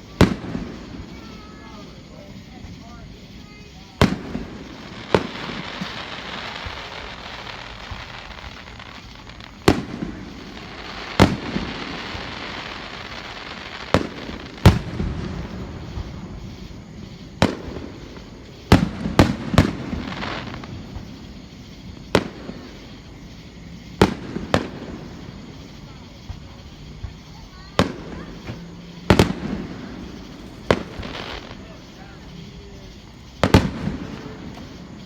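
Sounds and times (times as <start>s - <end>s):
fireworks booming: 0.0s - 35.0s
fireworks crackling hiss: 0.0s - 35.0s.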